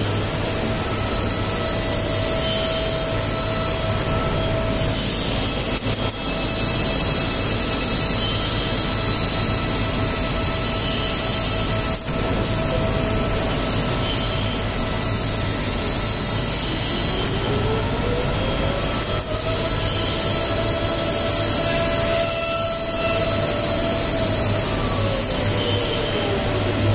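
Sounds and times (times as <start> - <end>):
spindle whine: 0.0 - 26.9.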